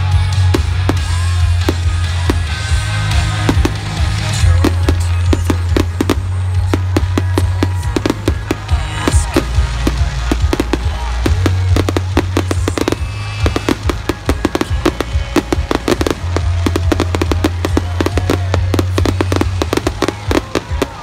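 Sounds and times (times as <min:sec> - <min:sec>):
fireworks bursting and crackling: 0:00.0 - 0:21.0
music with low bass: 0:00.0 - 0:21.0.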